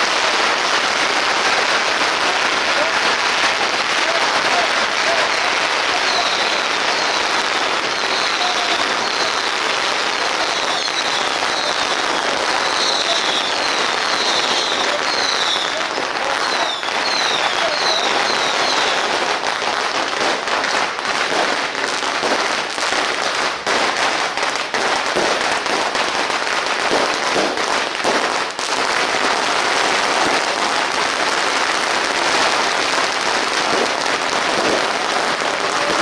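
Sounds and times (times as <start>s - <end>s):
firecrackers crackling: 0.0s - 36.0s.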